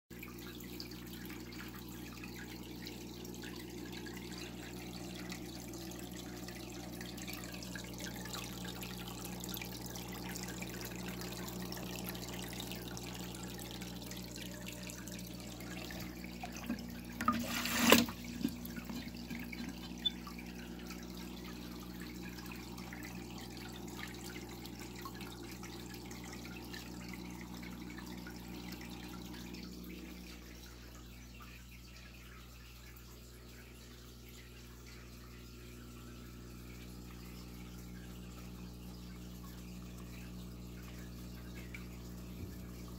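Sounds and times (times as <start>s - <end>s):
water trickling and dripping: 0.1s - 42.9s.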